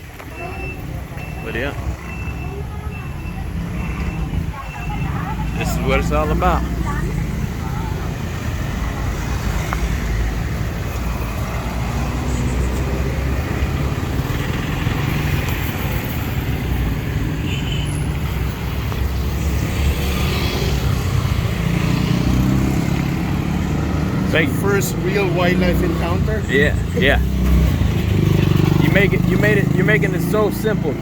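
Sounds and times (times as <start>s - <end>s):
road noise: 0.0s - 31.0s
vehicle engine rumbling: 0.0s - 31.0s.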